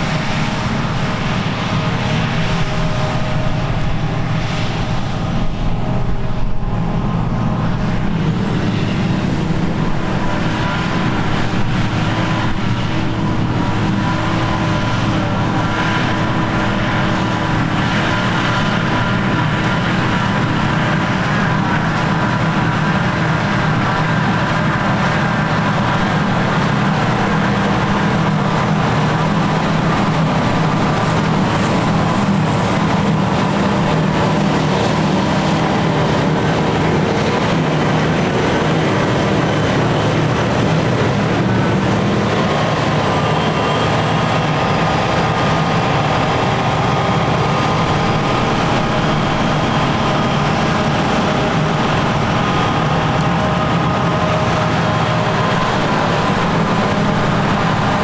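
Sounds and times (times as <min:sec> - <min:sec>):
forage harvester engine drone: 0:00.0 - 0:58.0.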